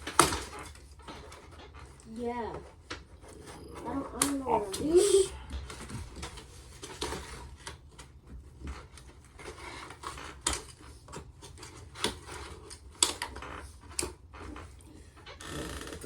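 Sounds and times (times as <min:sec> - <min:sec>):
plastic packaging rustling: 0:00.0 - 0:15.4.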